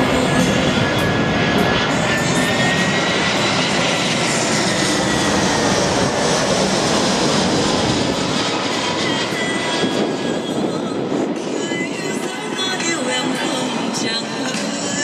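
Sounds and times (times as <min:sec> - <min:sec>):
jet airliner flying overhead: 0:00.0 - 0:15.0.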